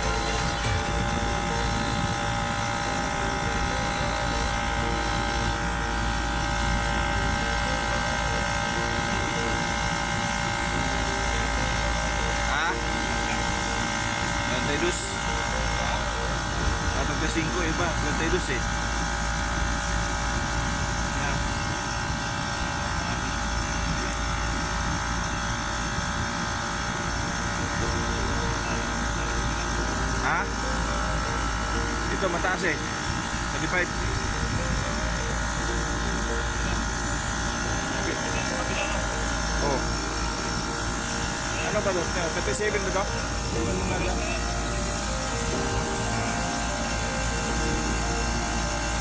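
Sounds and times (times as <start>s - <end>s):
air conditioning unit running: 0.0s - 49.0s
machinery low hum: 0.0s - 49.0s
machinery whining tones: 0.0s - 49.0s.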